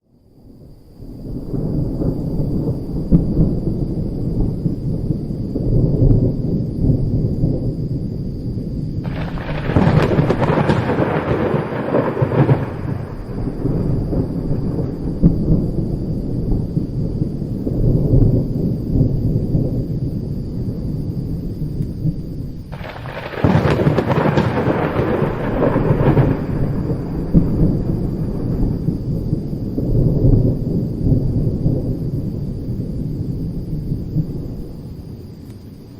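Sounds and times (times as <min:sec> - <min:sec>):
thunder rumbling: 0:00.3 - 0:35.9
sharp thunderclaps: 0:01.1 - 0:35.2.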